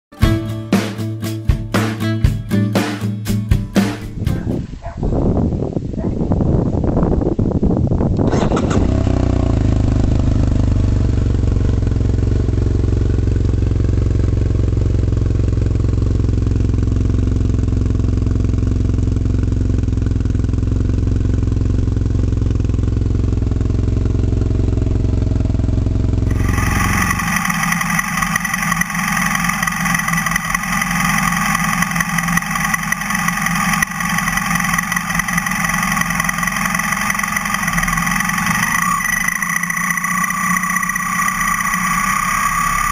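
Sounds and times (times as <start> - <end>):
motorcycle engine running: 6.9 - 42.9.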